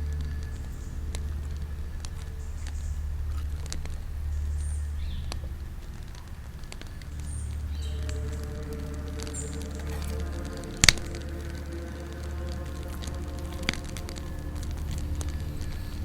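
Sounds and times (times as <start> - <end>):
campfire crackling: 0.0 - 16.0
steady low rumble: 0.0 - 16.0.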